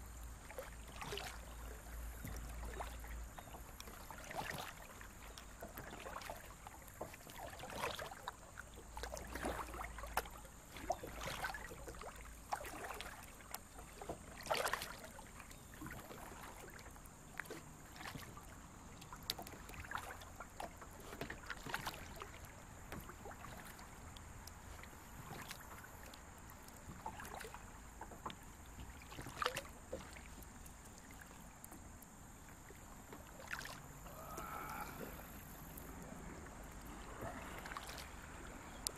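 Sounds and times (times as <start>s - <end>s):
kayak paddle splashing in water: 0.0s - 38.9s.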